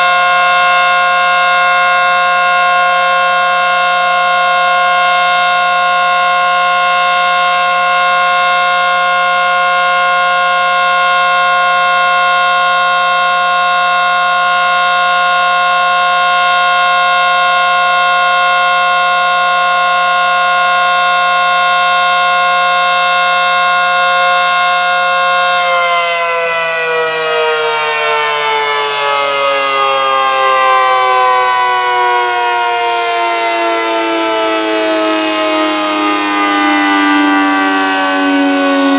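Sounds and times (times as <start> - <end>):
outdoor warning siren tone: 0.0 - 38.9.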